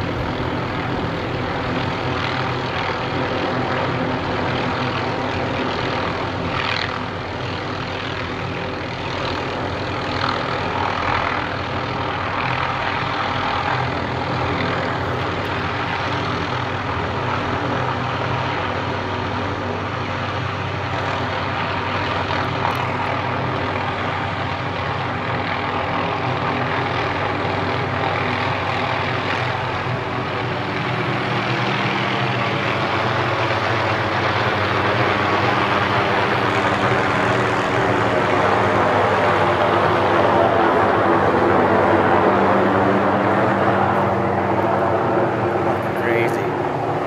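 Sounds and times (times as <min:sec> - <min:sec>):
helicopter flying overhead: 0:00.0 - 0:47.0.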